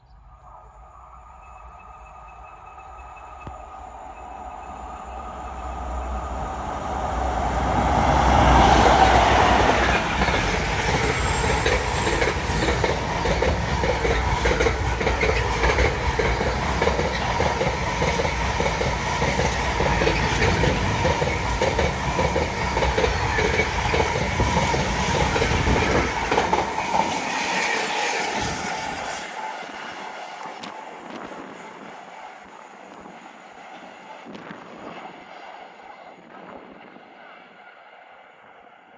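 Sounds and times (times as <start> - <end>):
rhythmic train clatter: 0.2 - 38.9
train wheels rushing on rail: 0.2 - 38.9.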